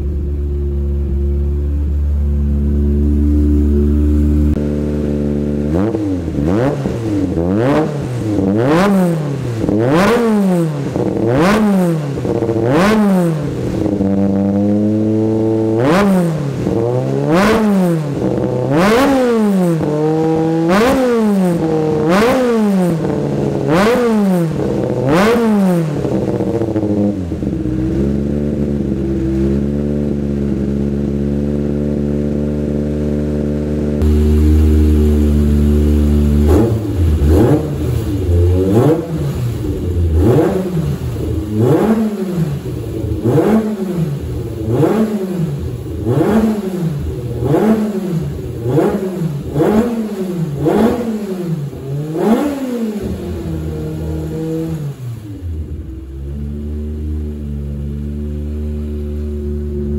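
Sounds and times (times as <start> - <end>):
race engine idling and revving: 0.0 - 59.9.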